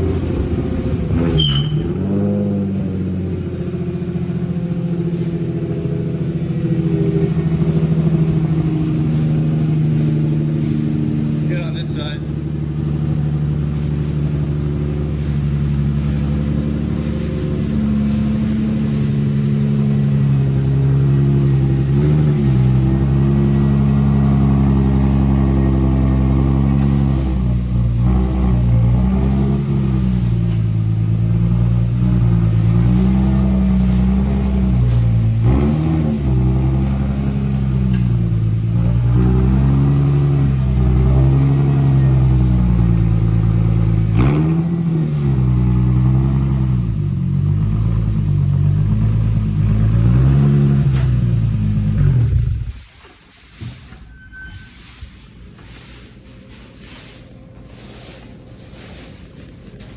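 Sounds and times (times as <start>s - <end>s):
car engine revving: 0.0s - 52.8s.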